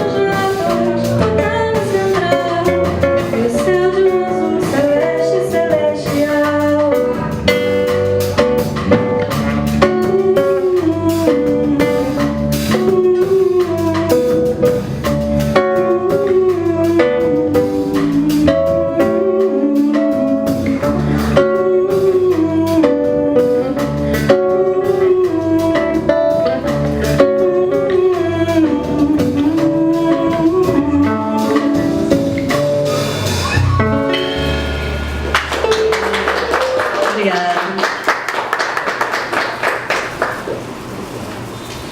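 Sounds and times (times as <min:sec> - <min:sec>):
acoustic guitar melody: 0:00.0 - 0:37.4
bass: 0:00.0 - 0:37.5
drum kit groove: 0:00.0 - 0:37.5.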